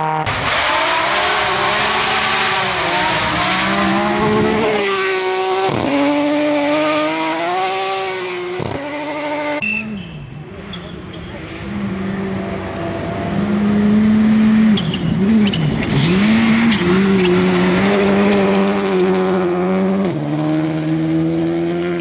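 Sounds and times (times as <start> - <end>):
car engine accelerating hard: 0.0 - 9.6, 10.5 - 22.0.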